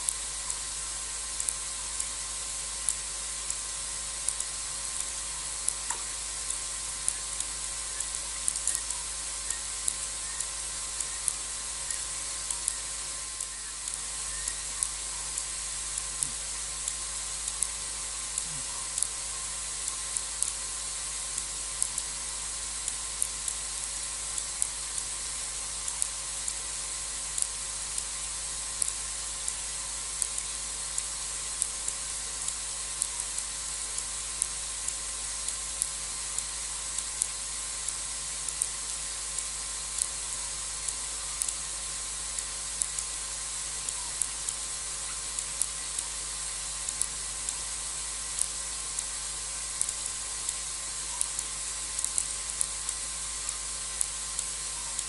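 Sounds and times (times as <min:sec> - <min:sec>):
insect chorus hiss: 0:00.0 - 0:55.0
sharp irregular clicks: 0:00.0 - 0:55.0.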